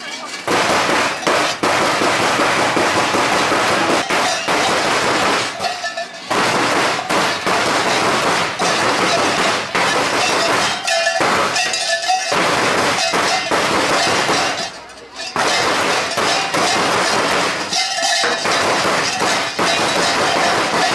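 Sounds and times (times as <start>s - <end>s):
bells and chains clanging: 0.0s - 20.9s.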